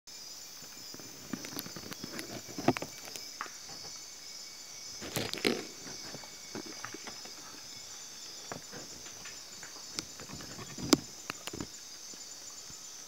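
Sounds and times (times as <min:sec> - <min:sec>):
night insects chorus: 0:00.1 - 0:13.0
leaves and twigs crackling: 0:00.6 - 0:04.2, 0:04.8 - 0:12.9.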